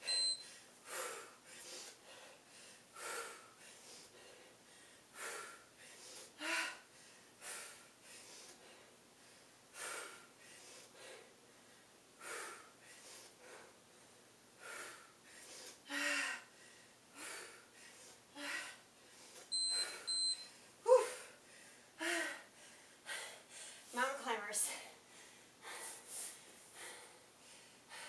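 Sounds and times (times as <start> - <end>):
woman breathing hard: 0.0 - 23.9, 24.7 - 28.0.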